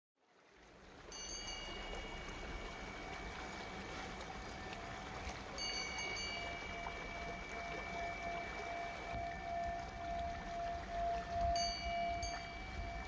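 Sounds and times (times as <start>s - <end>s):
chimes ringing: 1.1s - 13.0s.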